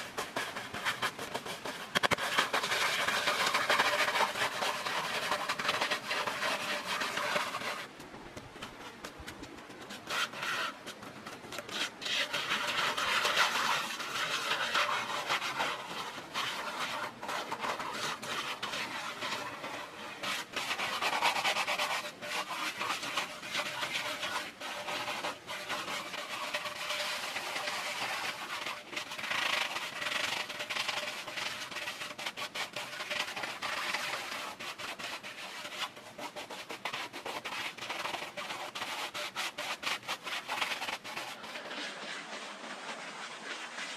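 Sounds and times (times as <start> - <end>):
scraping on a rough surface: 0.0 - 43.9.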